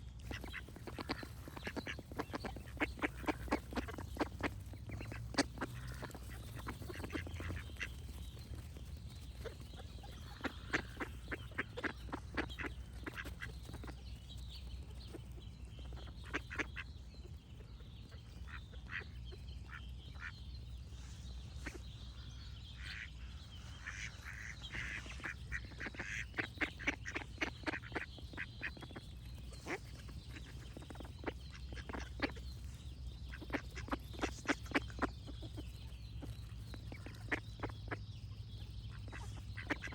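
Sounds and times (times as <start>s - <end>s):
small birds singing: 0.0s - 39.9s
ducks quacking: 0.1s - 39.9s.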